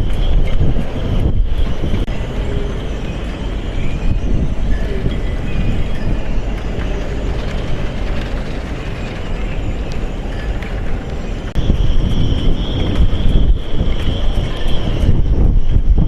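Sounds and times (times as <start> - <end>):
faint high whistling: 0.0 - 16.0
wind buffeting microphone: 0.0 - 16.0.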